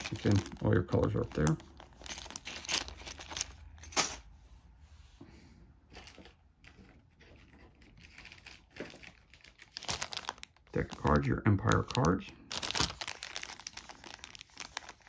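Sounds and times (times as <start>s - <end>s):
plastic bag crinkling: 0.0s - 4.2s, 5.9s - 15.0s.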